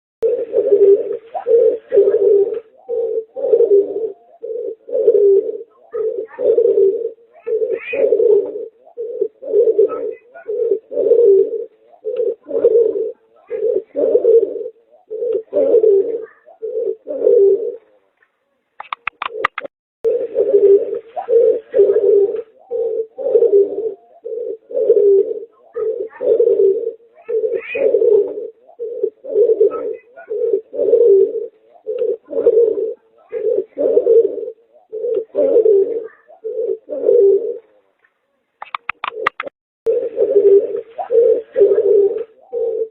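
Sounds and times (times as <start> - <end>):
pigeon cooing: 0.2 - 18.1, 18.8 - 37.9, 38.6 - 42.9.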